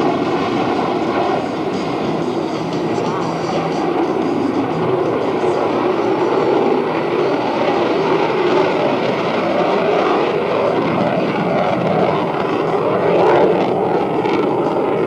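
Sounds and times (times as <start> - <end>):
jet engines roaring in flight: 0.0 - 15.0.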